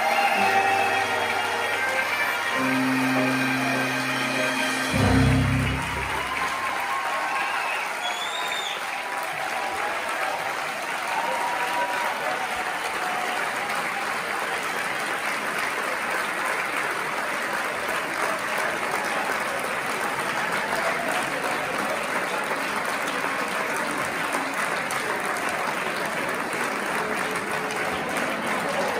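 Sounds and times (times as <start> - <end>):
audience applauding: 0.0 - 28.9.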